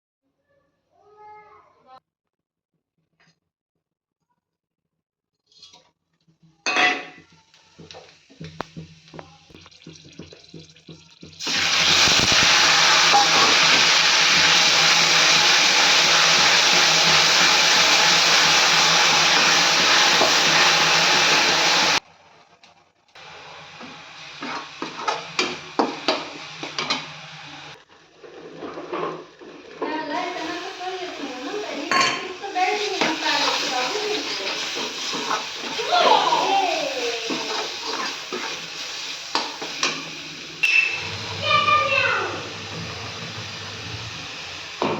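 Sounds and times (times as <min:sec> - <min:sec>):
pots and utensils clinking: 0:06.6 - 0:22.0, 0:23.5 - 0:44.9.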